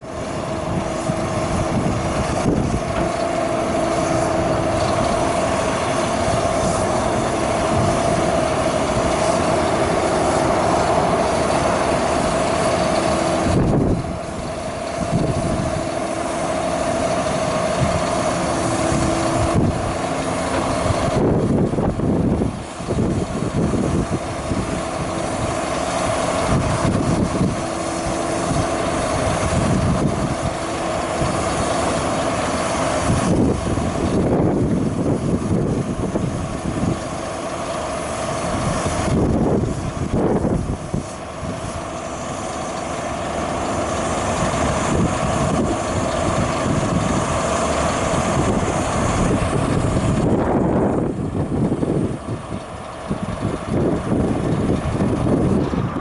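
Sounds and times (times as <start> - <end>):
high engine whine: 0.0 - 56.0
truck diesel engine running: 0.0 - 56.0.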